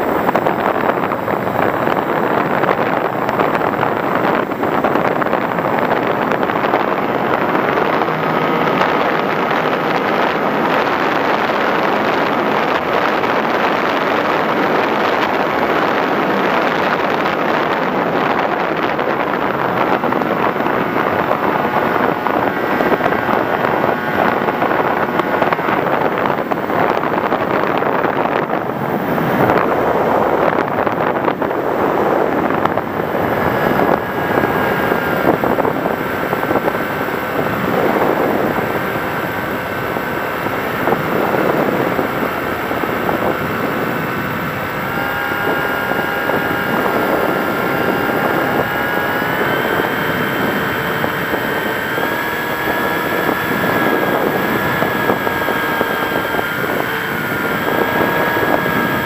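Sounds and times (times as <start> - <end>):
model plane motor whining: 0.0 - 59.0
wind rushing over microphone: 0.0 - 59.0.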